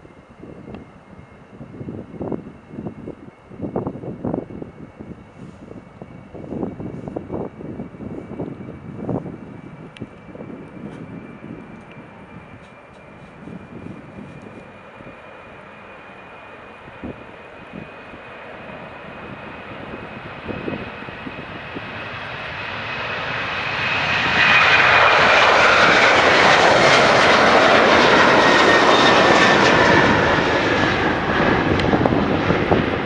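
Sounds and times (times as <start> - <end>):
high engine whine: 0.0 - 33.0
jet airliner engines roaring: 0.0 - 33.0.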